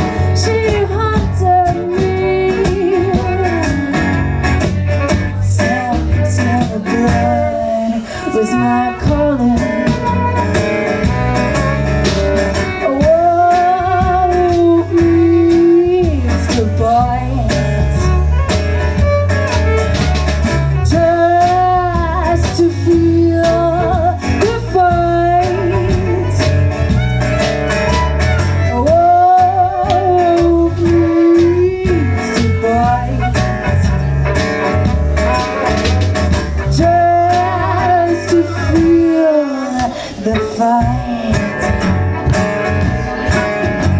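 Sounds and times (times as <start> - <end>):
electric bass: 0.0 - 43.9
percussion: 0.0 - 43.9
strummed acoustic guitar: 0.0 - 43.9
violin: 0.0 - 43.9.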